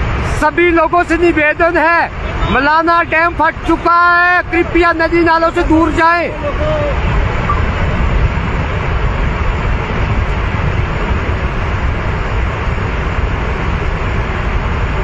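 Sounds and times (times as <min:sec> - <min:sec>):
rush of fast-moving water: 0:00.0 - 0:15.0.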